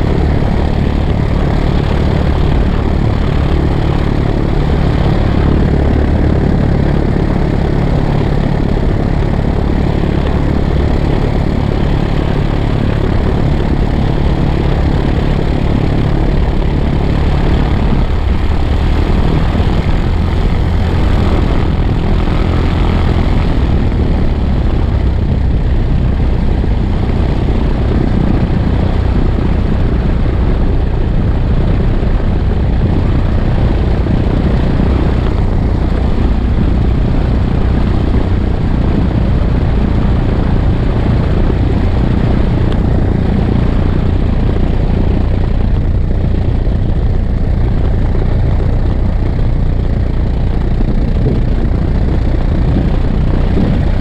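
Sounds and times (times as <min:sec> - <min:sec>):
propeller plane engine running: 0:00.0 - 0:54.0.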